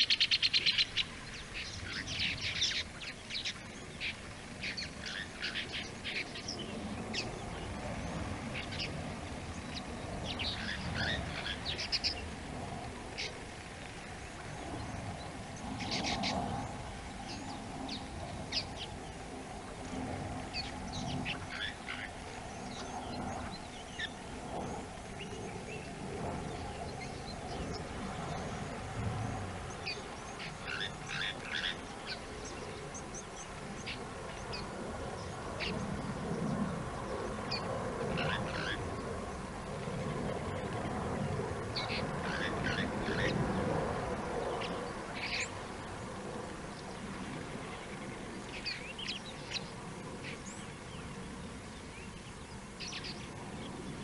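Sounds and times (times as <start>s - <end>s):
birds chirping and trilling: 0.0s - 54.0s
low outdoor background noise: 0.0s - 54.0s.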